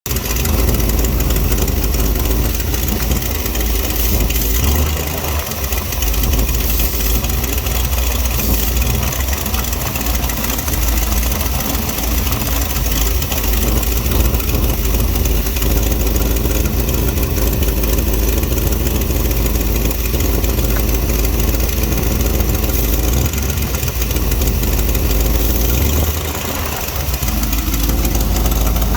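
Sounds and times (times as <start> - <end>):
engine idling: 0.0 - 28.9.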